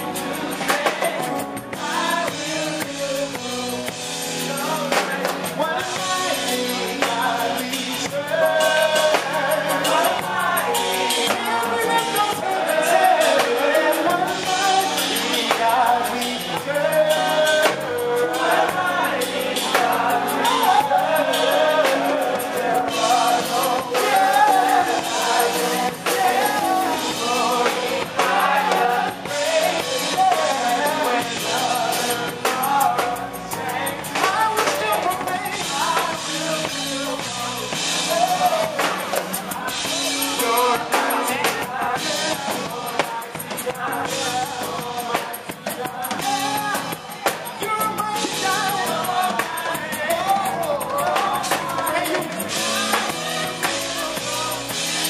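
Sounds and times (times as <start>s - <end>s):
band with drum kit: 0.0s - 55.0s
gospel singers: 0.0s - 55.0s.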